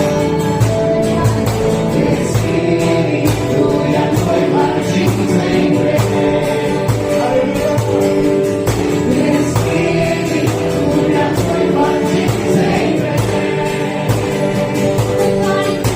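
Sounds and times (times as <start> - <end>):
band accompaniment: 0.0 - 15.9
group singing gospel song: 0.0 - 15.9.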